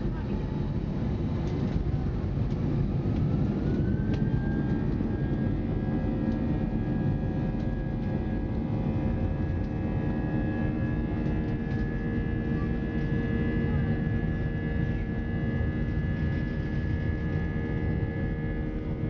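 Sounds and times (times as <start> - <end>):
jet engine rush and rumble: 0.0 - 19.0
jet engine whine: 0.0 - 19.0.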